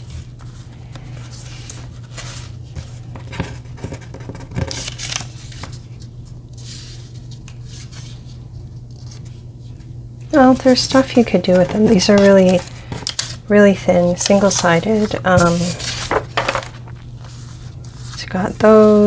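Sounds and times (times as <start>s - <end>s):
paper sticker sheets rustling: 0.0s - 19.0s
steady low hum: 0.0s - 19.0s.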